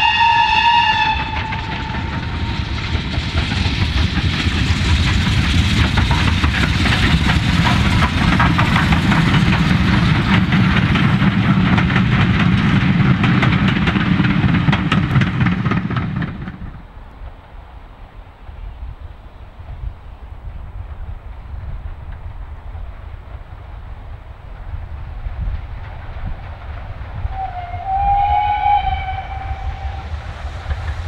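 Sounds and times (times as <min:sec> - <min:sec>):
train wheels clattering over rails: 0:00.0 - 0:17.4, 0:20.8 - 0:31.0.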